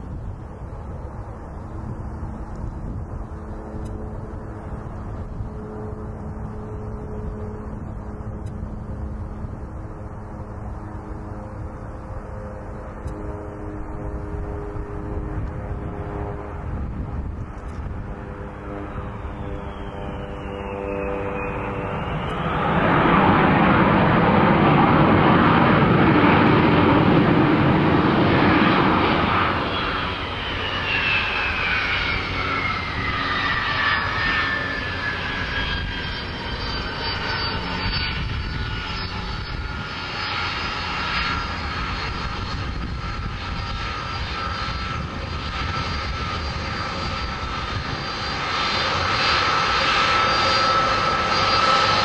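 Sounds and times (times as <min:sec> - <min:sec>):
aircraft engine rushing: 0:00.0 - 0:52.0
high whine falling in pitch: 0:02.5 - 0:52.0.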